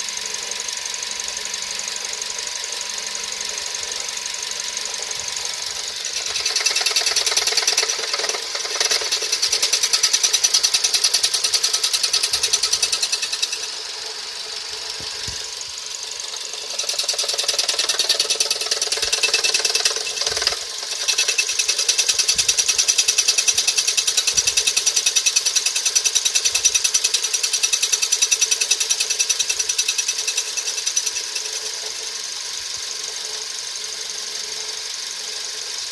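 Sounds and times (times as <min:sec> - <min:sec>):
car engine running: 0:00.0 - 0:35.9
metallic ticking rattle: 0:02.5 - 0:31.9.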